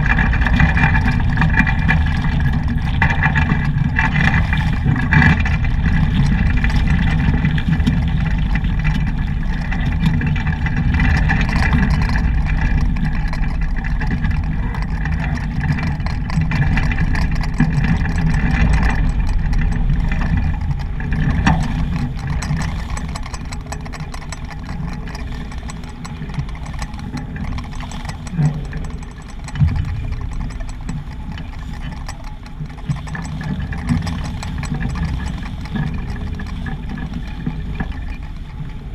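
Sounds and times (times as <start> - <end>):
water rushing along hull: 0.0 - 38.9
wind rumbling on microphone: 0.0 - 38.9.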